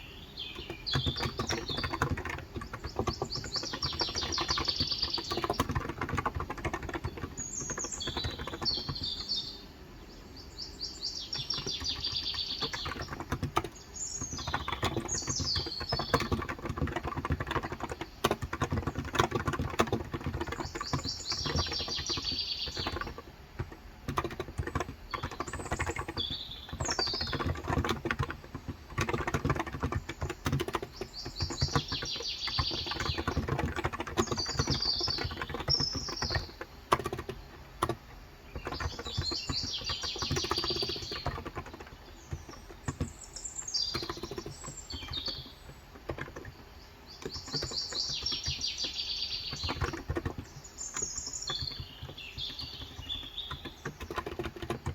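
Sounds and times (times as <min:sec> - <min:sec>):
small birds chirping: 0:00.0 - 0:54.9
fast keyboard typing: 0:00.4 - 0:09.6, 0:11.1 - 0:54.9.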